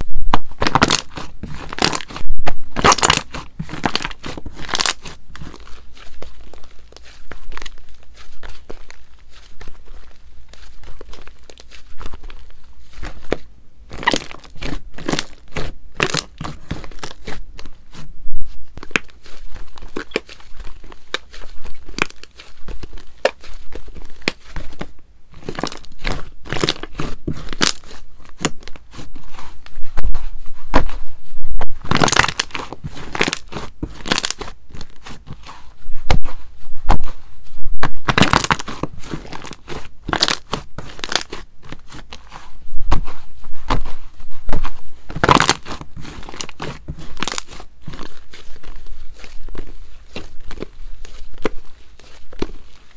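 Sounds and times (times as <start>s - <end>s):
slime crackling and popping: 0.0s - 17.9s, 18.8s - 29.0s, 31.7s - 35.5s, 37.8s - 43.8s, 44.4s - 52.9s.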